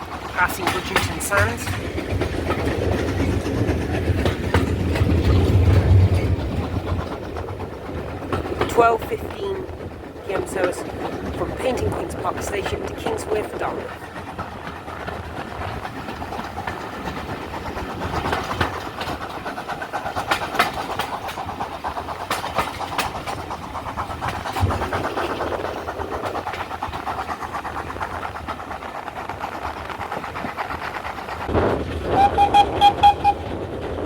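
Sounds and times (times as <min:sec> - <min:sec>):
steam train running by: 0:00.0 - 0:34.0
train wheels clicking over rail joints: 0:00.0 - 0:34.0.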